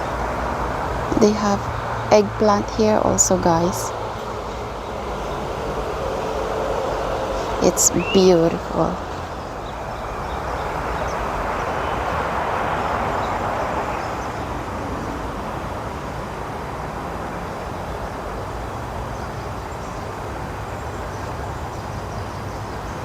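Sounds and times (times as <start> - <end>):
background traffic hum: 0.0 - 23.0
vehicle passing: 0.0 - 23.0.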